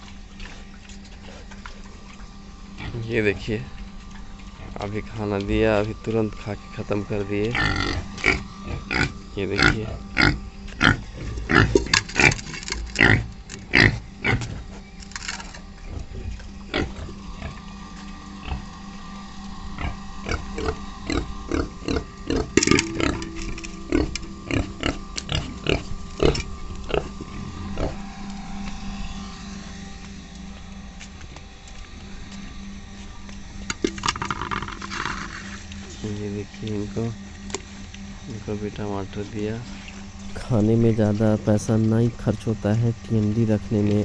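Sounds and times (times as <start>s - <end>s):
pigs grunting and eating: 0.0s - 28.3s, 33.7s - 37.7s, 38.3s - 44.0s.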